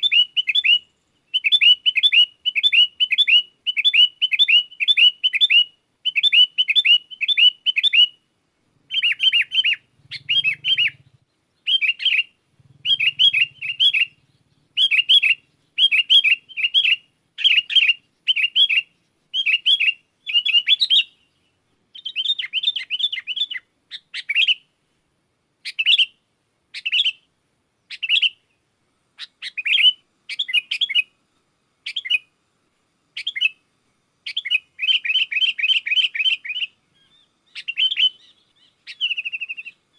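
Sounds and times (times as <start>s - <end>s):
bulbuls chirping: 0.0s - 24.8s, 25.6s - 31.2s, 31.8s - 32.4s, 33.1s - 39.9s.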